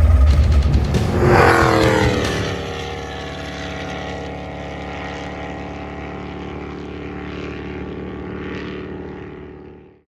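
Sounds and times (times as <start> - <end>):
boat engine running at speed: 0.0 - 10.0.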